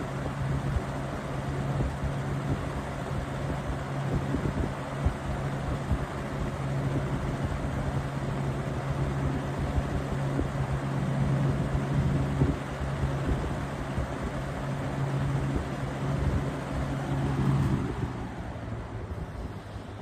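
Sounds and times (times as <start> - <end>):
fan motor hum: 0.0 - 20.0
rush of air from fan: 0.0 - 20.0.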